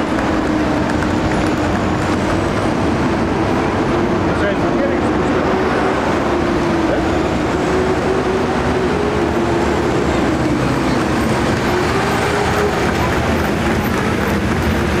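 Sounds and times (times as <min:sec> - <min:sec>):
heavy vehicles driving past: 0:00.0 - 0:15.0.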